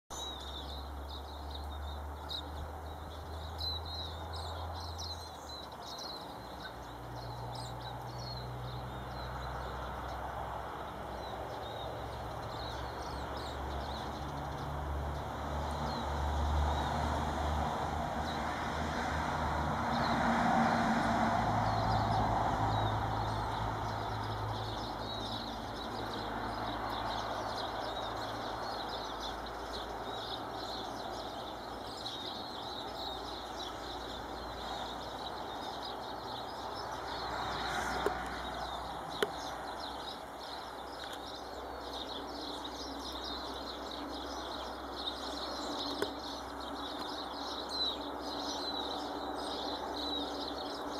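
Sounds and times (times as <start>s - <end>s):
birds chirping and twittering: 0.1s - 50.9s.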